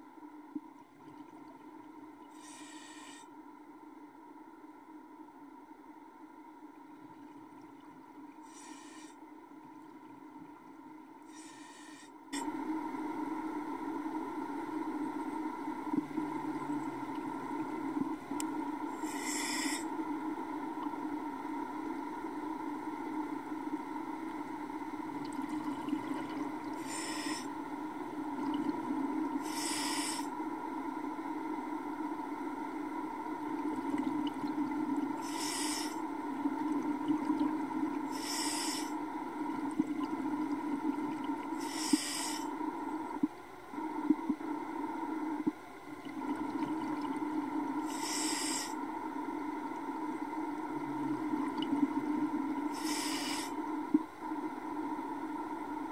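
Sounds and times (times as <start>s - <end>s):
underwater low drone: 0.0s - 55.9s.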